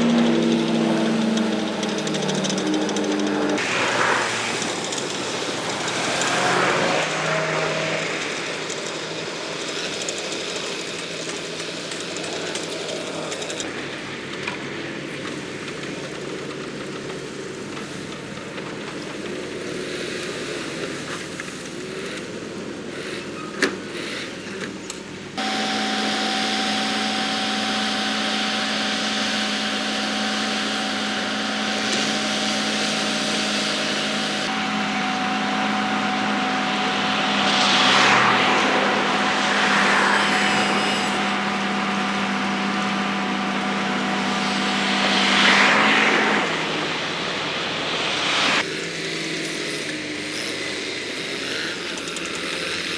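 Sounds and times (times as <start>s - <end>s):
constant engine whine: 0.0s - 52.9s
excavator diesel engine: 0.0s - 52.9s.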